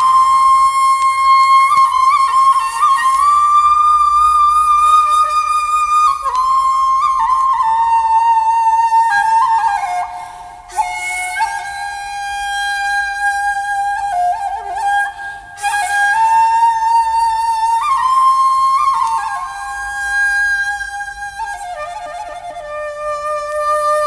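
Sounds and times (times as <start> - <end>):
flute playing slow melody: 0.0 - 24.0.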